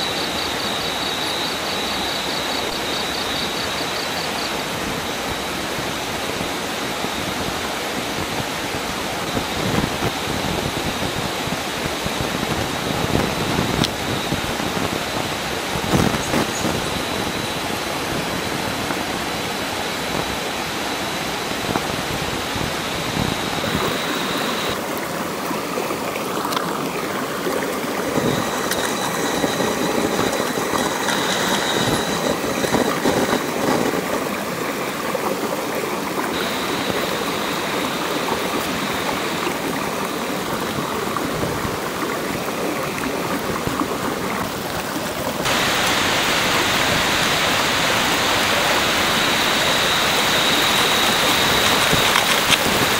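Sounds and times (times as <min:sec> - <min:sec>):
stream water flowing: 0:00.0 - 0:52.9.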